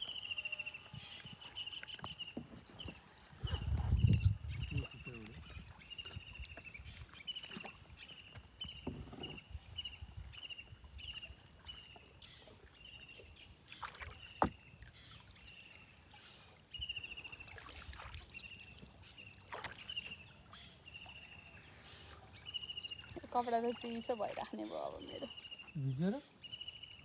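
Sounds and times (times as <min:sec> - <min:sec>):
paddle swishing through water: 0:00.0 - 0:25.6.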